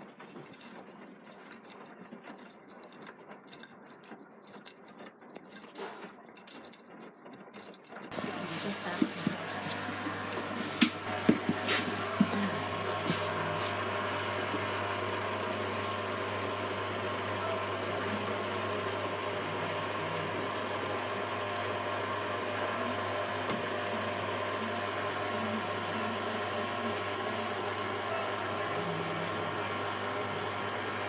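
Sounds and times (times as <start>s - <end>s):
washing machine humming: 0.0s - 31.0s.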